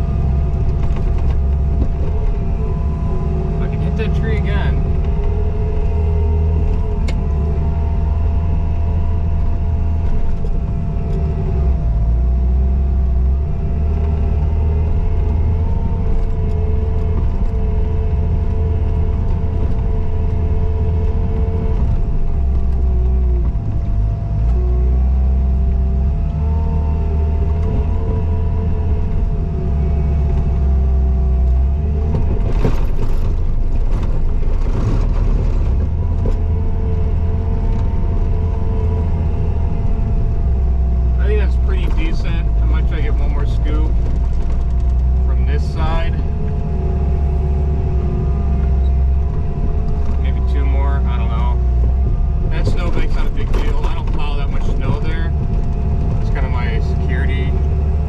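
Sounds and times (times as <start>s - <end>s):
skid steer engine rumbling: 0.0s - 58.0s.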